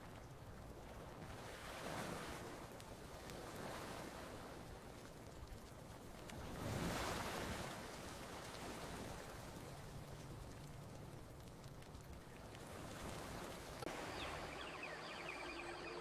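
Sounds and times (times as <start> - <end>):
faint campfire crackles: 0.0 - 16.0
ocean waves washing onto beach: 0.0 - 16.0.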